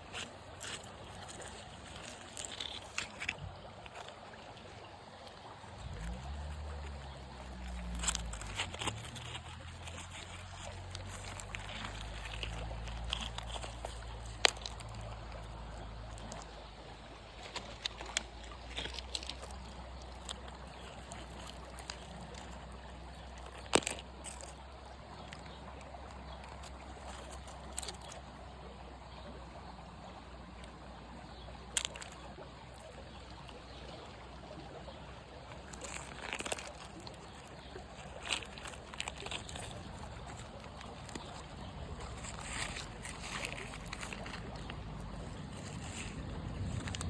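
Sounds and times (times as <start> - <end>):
water trickling and sloshing: 0.0 - 47.0.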